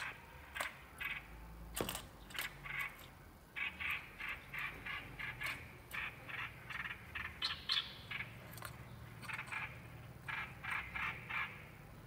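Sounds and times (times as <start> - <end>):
bird harsh chattering calls: 0.0 - 1.5, 2.2 - 12.0.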